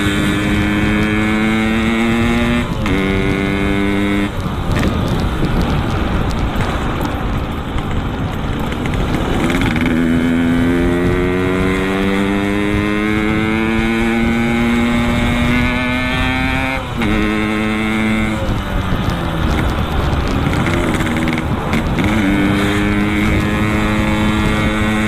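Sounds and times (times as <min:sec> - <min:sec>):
two-stroke motorcycle accelerating: 0:00.0 - 0:25.0.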